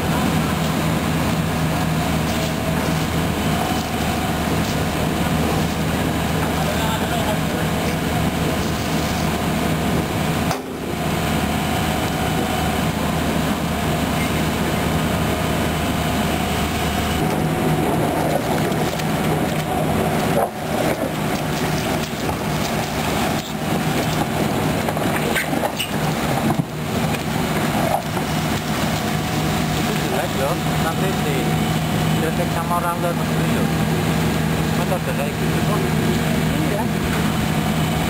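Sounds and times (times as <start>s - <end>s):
drill rig engine and hydraulics: 0.0s - 38.0s.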